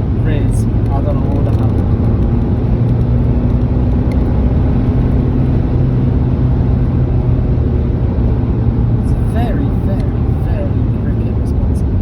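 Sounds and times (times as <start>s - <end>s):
car engine drone: 0.0s - 12.0s
road and tyre noise: 0.0s - 12.0s.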